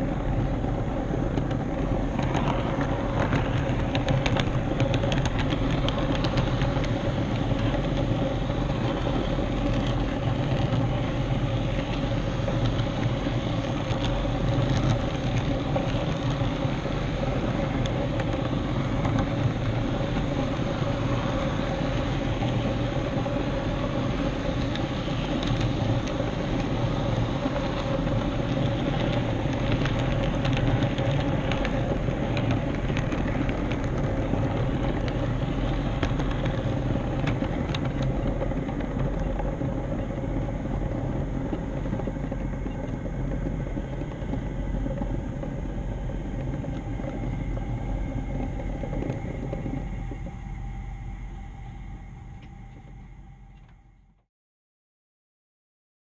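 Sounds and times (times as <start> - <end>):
wheels ticking over rail joints: 0.0 - 53.8
wheels rolling on track: 0.0 - 54.2.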